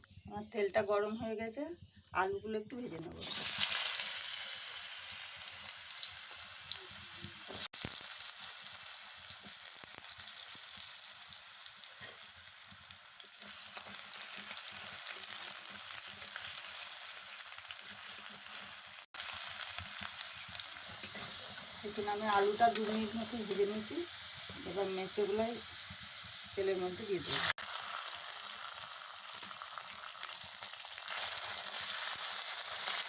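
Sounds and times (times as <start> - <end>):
potatoes sizzling in hot oil: 3.2 - 33.0.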